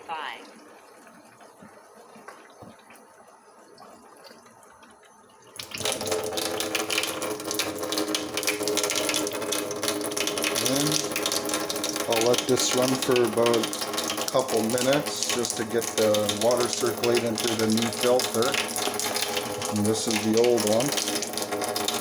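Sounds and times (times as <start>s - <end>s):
rushing flowing water: 0.0s - 22.0s.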